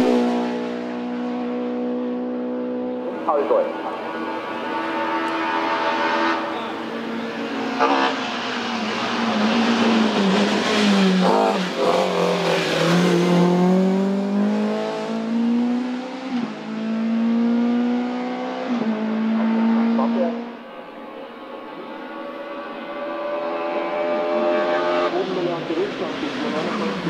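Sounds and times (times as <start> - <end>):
race car engine under load: 0.0 - 27.0.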